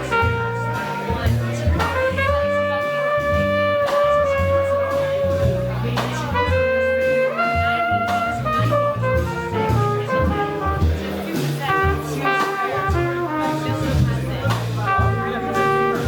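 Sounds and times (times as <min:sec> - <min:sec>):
horn playing long melody notes: 0:00.0 - 0:16.0
walking bass line: 0:00.0 - 0:16.0.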